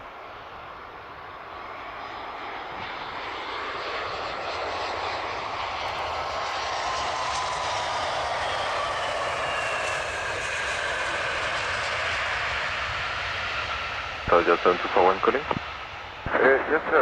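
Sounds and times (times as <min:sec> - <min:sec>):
jet airliner engines roaring: 0:00.0 - 0:17.0.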